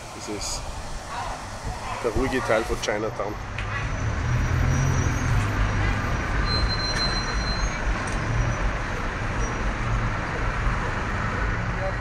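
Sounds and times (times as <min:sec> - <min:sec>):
bus and car engines rumbling: 0:00.0 - 0:12.0.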